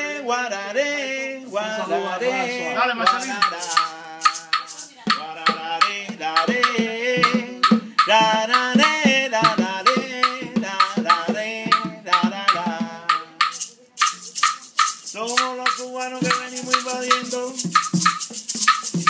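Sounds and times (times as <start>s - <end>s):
man singing: 0.0s - 13.7s, 15.1s - 17.9s
maracas shaking: 1.5s - 19.0s
hand drum strokes: 3.0s - 19.0s.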